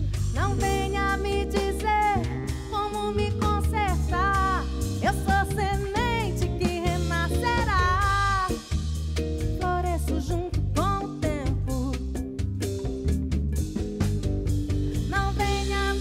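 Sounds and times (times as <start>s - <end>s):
woman singing: 0.0s - 12.2s, 15.0s - 16.0s
band accompaniment: 0.0s - 16.0s
steady low bass: 0.0s - 16.0s.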